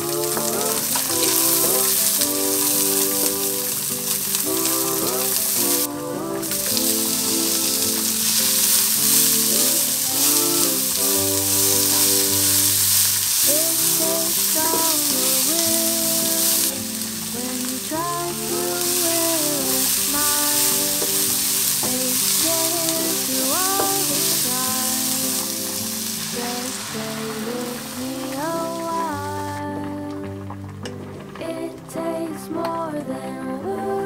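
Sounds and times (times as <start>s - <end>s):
background music with melody: 0.0s - 34.0s
garlic and onion sizzling: 0.0s - 34.0s.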